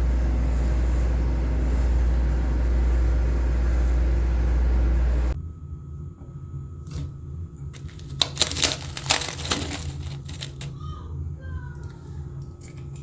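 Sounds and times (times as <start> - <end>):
low hum with hiss: 0.0 - 13.0.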